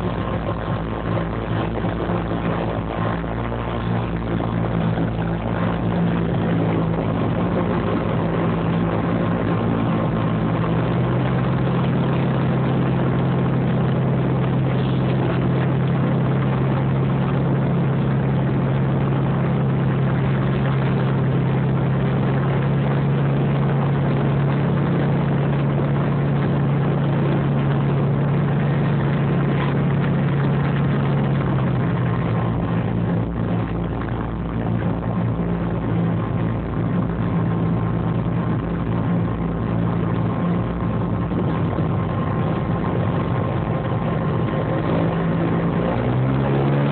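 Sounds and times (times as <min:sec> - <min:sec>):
aircraft engines droning: 0:00.0 - 0:46.9.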